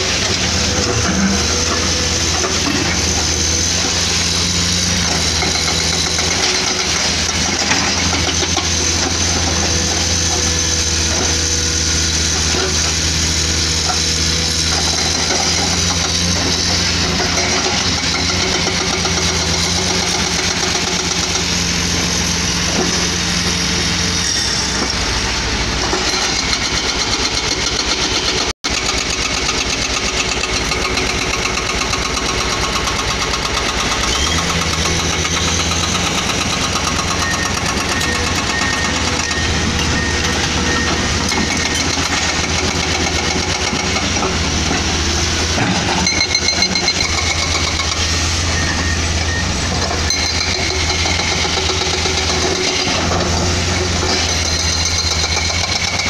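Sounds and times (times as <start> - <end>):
hydraulic breaker hammering rock: 0.0 - 23.7, 25.8 - 49.0, 49.7 - 56.0
diesel engines running: 0.0 - 56.0.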